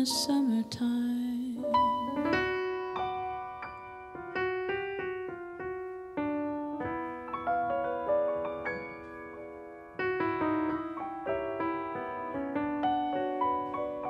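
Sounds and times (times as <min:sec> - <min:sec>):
grand piano playing: 0:00.0 - 0:14.0.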